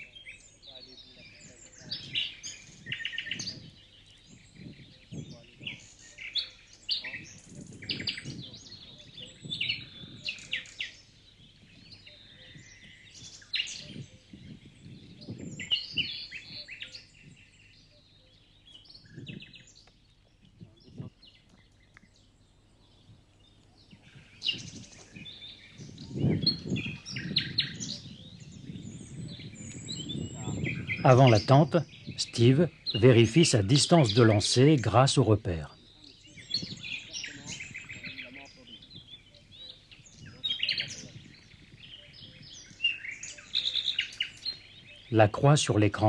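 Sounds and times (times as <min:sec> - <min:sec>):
birds chirping and trilling: 0:00.0 - 0:46.0.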